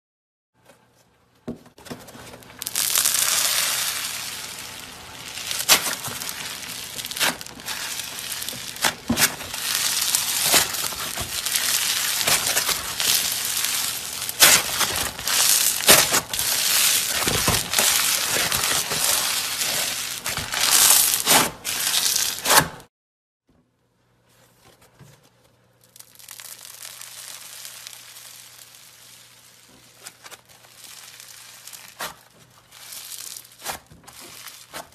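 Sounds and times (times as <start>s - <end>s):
slime crackling and popping: 2.6s - 22.7s, 25.8s - 34.9s.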